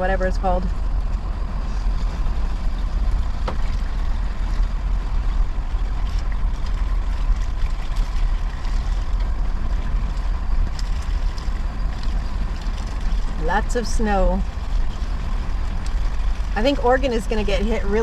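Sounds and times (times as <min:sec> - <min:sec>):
engine and road rumble in cab: 0:00.0 - 0:18.0.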